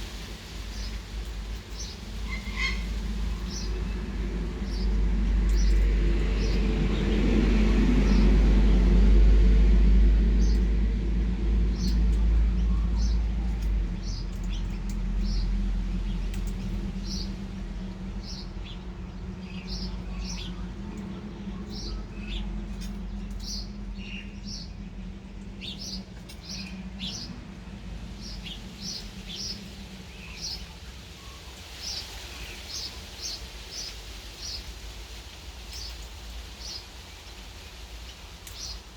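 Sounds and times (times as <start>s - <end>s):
low rumble: 0.0s - 31.3s
birds chirping: 0.6s - 8.4s, 10.3s - 34.8s, 38.0s - 38.8s.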